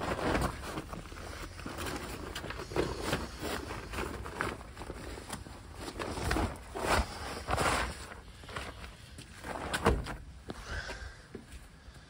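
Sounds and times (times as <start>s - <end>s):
fabric cover rustling: 0.0s - 10.6s.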